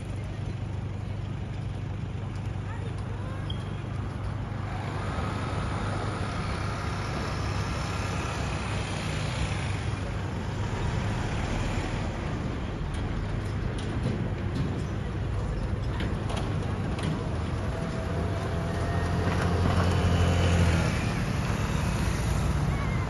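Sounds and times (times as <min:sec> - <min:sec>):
tyre and road noise: 0:00.0 - 0:23.0
vehicle engine running: 0:00.0 - 0:23.0.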